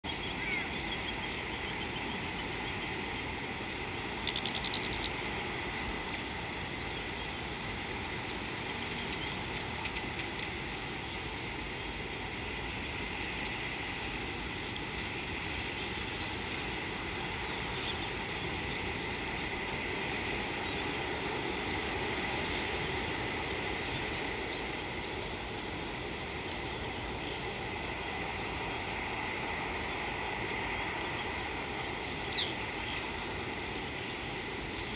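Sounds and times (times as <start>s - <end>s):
cricket chirping: 0.0s - 34.9s
outdoor hiss: 0.0s - 34.9s.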